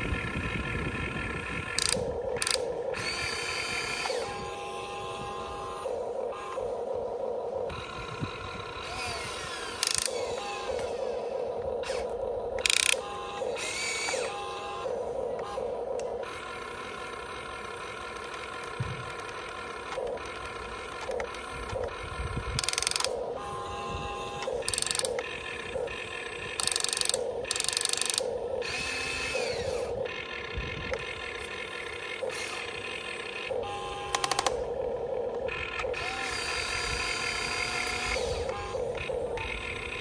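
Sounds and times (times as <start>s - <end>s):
small electric motors whirring: 0.0s - 40.0s
steady hum: 0.0s - 40.0s.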